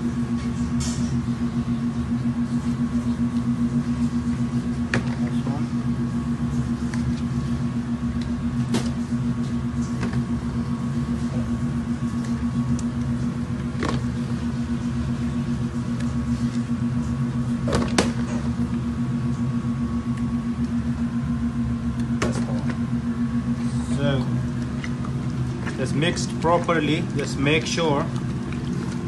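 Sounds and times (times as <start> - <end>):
kitchen machine hum: 0.0 - 29.0.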